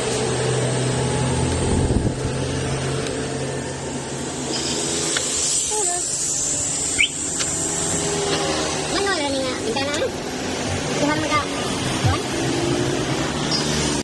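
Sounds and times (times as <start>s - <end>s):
mechanical drone with hum and hiss: 0.0s - 14.0s.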